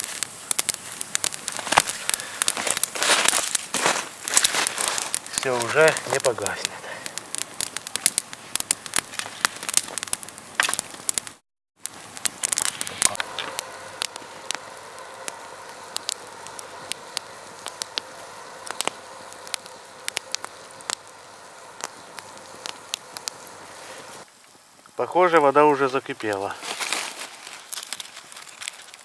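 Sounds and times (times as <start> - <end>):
campfire crackling and popping: 0.0 - 29.0
fire hiss: 0.0 - 29.0.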